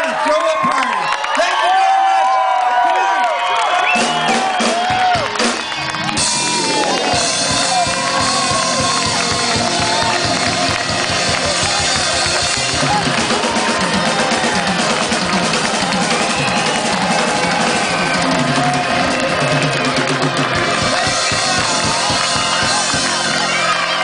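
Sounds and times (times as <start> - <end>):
keyboard: 3.1 - 24.0
drum kit beat: 3.8 - 24.0
electric bass: 4.0 - 24.0.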